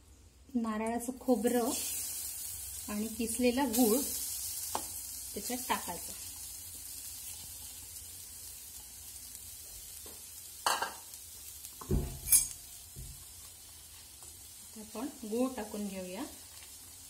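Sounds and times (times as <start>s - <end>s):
coconut sizzling in a pan: 0.0s - 17.0s.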